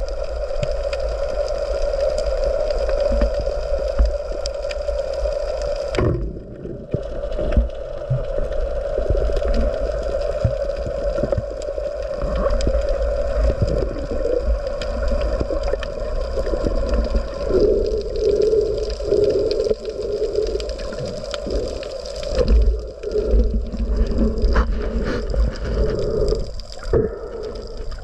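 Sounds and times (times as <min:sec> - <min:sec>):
sharp clicks and crackles: 0:00.0 - 0:28.0
underwater hum and rumble: 0:00.0 - 0:28.0.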